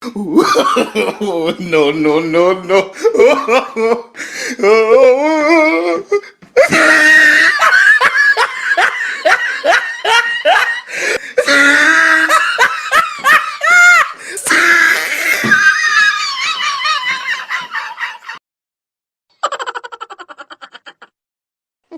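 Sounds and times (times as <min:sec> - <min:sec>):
person laughing hard: 0:00.2 - 0:01.5, 0:02.7 - 0:18.4, 0:19.4 - 0:21.2.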